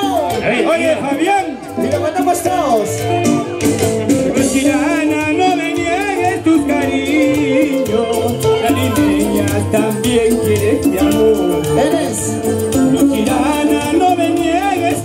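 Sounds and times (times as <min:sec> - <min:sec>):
live band playing latin dance music: 0:00.0 - 0:15.0.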